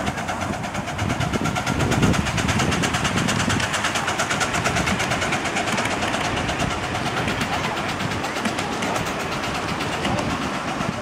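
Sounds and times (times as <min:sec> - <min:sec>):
miniature train clattering on track: 0:00.0 - 0:11.0.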